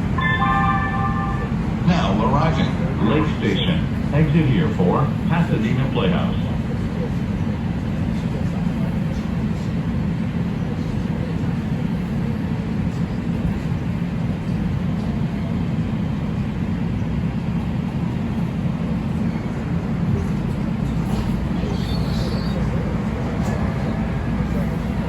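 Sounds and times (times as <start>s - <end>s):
train hum and rumble: 0.0s - 25.0s.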